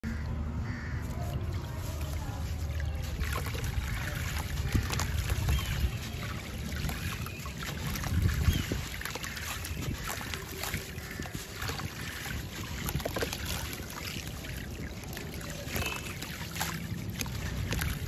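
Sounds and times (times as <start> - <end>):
sand pattering into water: 0.7 - 18.0.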